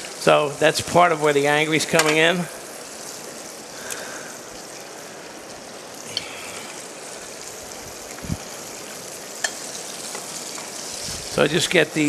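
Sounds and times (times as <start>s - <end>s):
seafood sizzling in oil: 0.0s - 12.0s.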